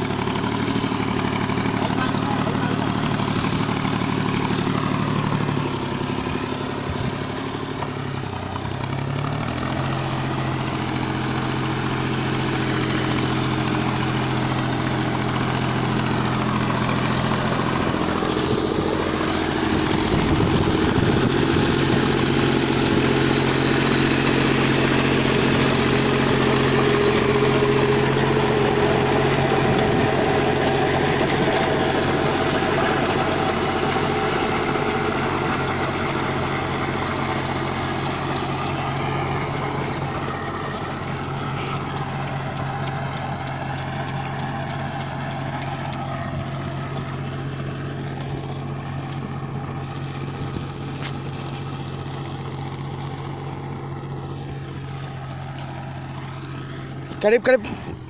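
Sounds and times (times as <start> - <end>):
rotavator churning soil: 0.0 - 58.0
tractor diesel engine running: 0.0 - 58.0.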